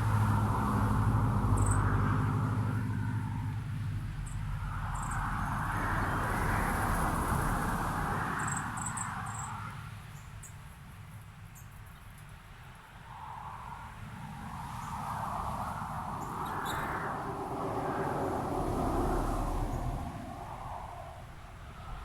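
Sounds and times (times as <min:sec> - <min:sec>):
car passing by: 0:00.0 - 0:10.0, 0:13.2 - 0:22.0.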